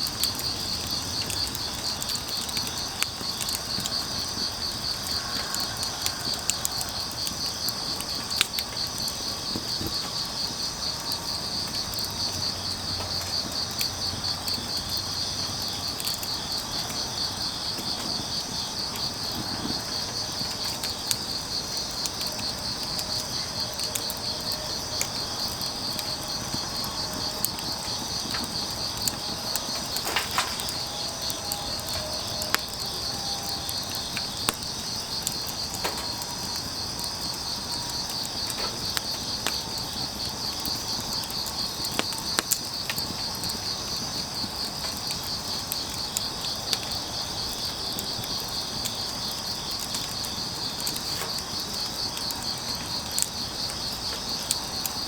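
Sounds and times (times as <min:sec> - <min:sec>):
crickets chirping: 0:00.0 - 0:55.0
firewood crackling and popping: 0:00.0 - 0:55.0.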